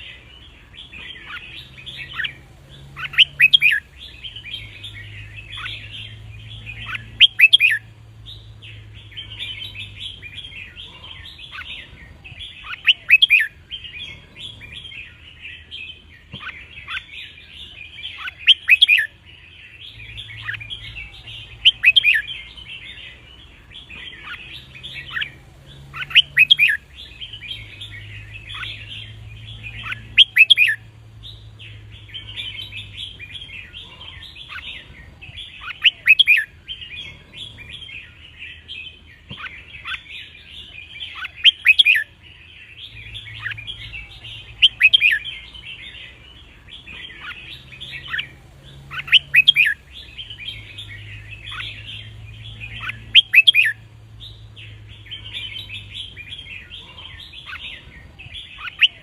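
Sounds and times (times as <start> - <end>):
birds twittering and chirping: 0.0 - 59.0.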